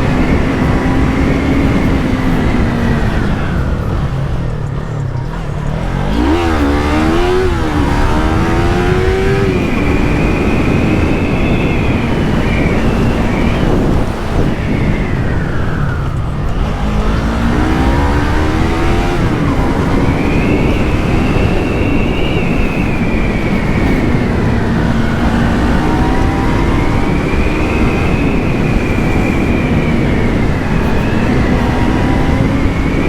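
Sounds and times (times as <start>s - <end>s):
motorcycle engine revving: 0.0s - 33.0s
steady wind noise: 0.0s - 33.0s.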